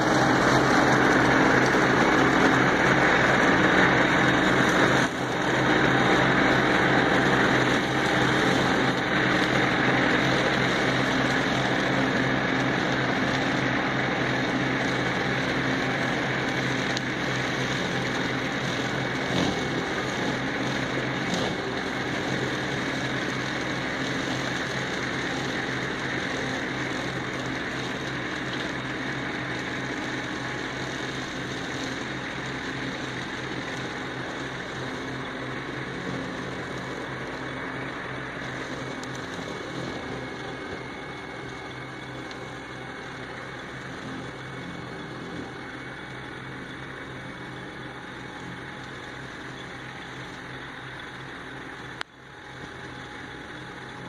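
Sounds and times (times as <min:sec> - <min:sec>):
mower cutting head hiss: 0:00.0 - 0:54.0
tractor diesel engine drone: 0:00.0 - 0:54.0.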